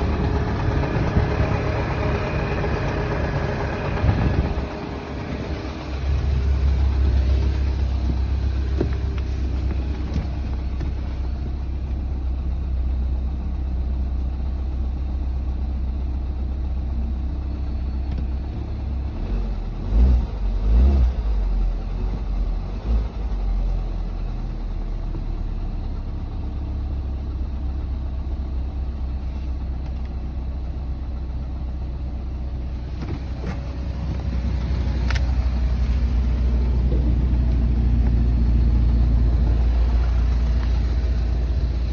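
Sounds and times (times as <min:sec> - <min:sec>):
engine knocking noise: 0:00.0 - 0:16.3, 0:16.9 - 0:41.9
car engine idling: 0:00.0 - 0:41.9.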